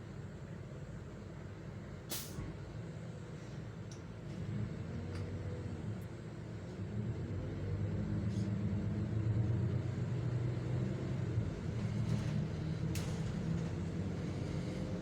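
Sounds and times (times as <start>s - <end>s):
bus engine humming: 2.5s - 15.0s.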